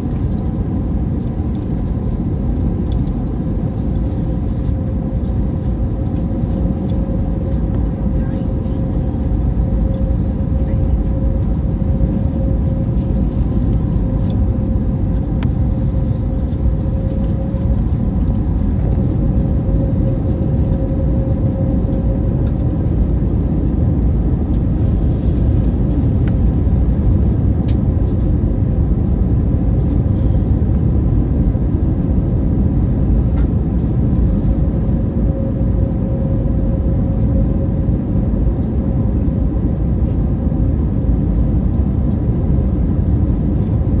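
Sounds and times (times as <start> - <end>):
airliner cabin engine rumble: 0.0 - 44.0
constant hum: 0.0 - 44.0.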